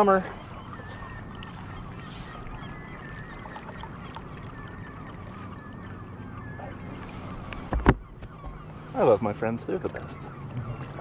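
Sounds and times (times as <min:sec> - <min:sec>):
lake water washing around kayak: 0:00.0 - 0:10.4
high wavering bird calls: 0:00.0 - 0:11.0.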